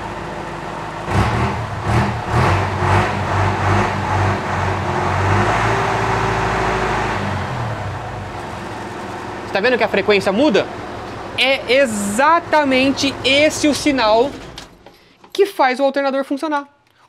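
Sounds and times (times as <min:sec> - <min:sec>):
diesel engine revving: 0:00.0 - 0:14.8.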